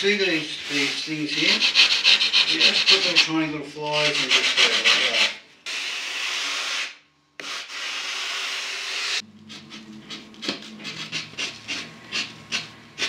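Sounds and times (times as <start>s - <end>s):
sanding foam surfboard: 0.1s - 13.0s.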